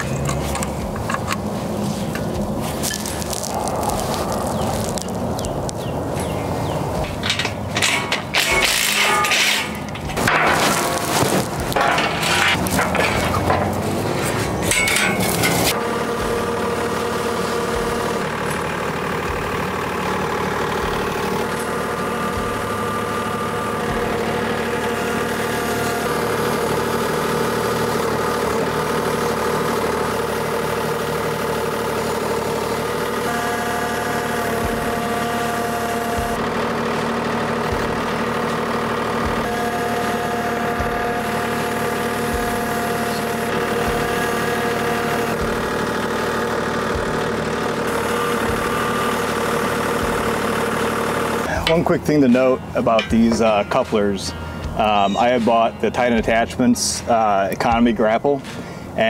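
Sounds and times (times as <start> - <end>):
higher engine tone: 0.0 - 59.0
tractor diesel engine running: 0.0 - 59.0.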